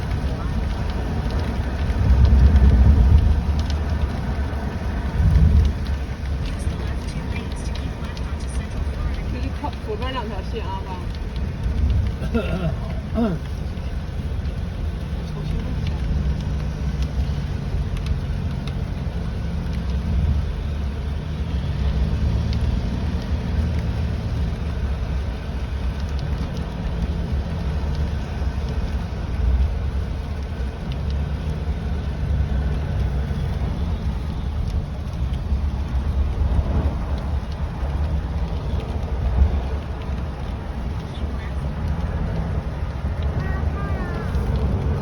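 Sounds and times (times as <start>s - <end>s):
rain ticking on car: 0.0s - 45.0s
road and engine rumble: 0.0s - 45.0s.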